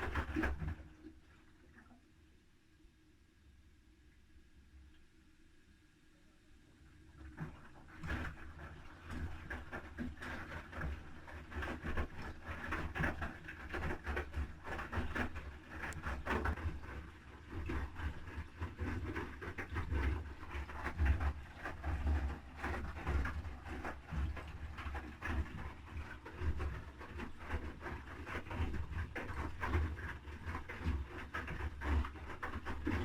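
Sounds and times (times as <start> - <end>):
washing machine laundry sloshing: 0.0 - 2.1, 7.0 - 33.0.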